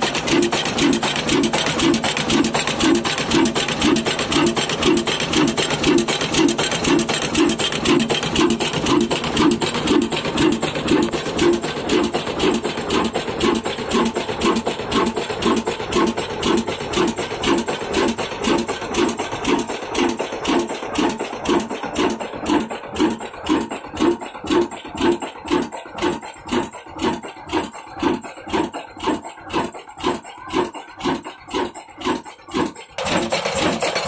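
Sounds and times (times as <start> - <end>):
mechanical clatter: 0.0 - 34.0
stationary diesel engine running: 0.0 - 34.0.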